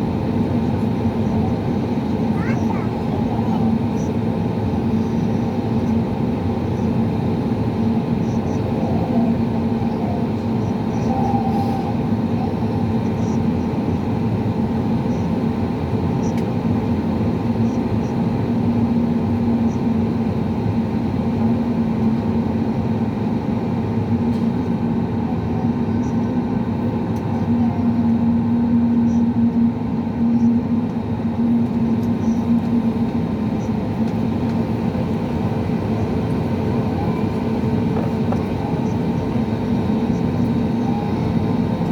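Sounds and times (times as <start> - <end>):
aircraft engine hum in cabin: 0.0 - 41.9.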